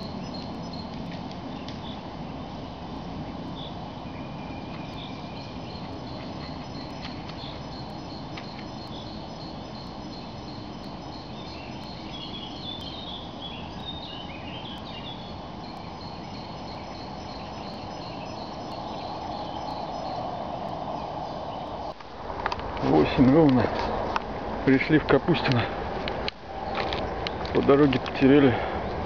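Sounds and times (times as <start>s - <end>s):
insects chirping: 0.0s - 28.6s
low background noise: 0.0s - 29.0s.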